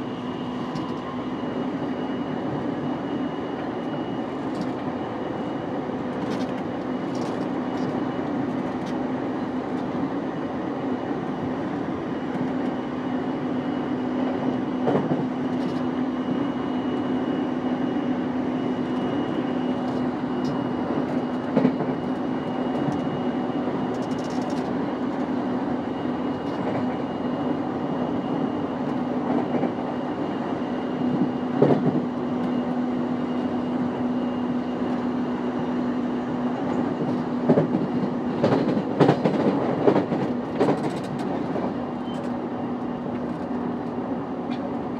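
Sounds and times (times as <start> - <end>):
electric train running: 0.0 - 44.9.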